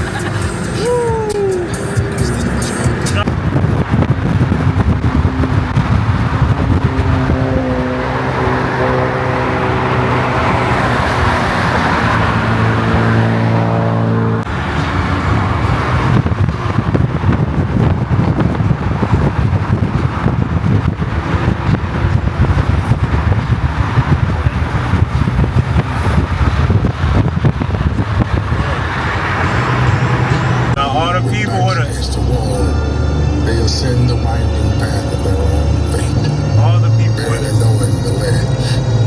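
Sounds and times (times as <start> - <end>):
car driving at speed: 0.0 - 39.0
car engine running: 0.0 - 39.0.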